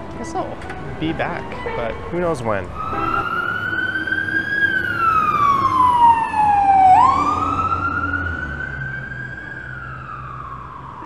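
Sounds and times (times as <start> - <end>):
emergency vehicle siren wailing: 0.7 - 11.0.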